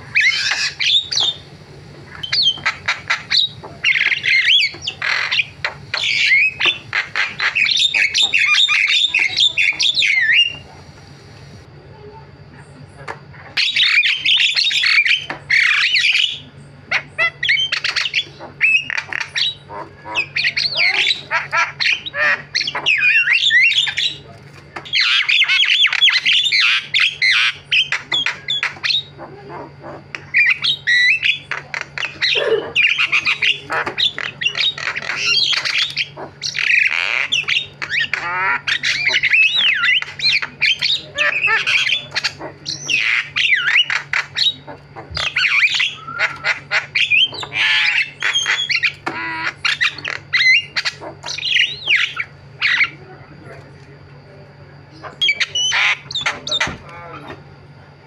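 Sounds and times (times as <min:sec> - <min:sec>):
myna squawking and whistling: 0:00.0 - 0:10.8, 0:13.4 - 0:53.1, 0:54.9 - 0:57.4.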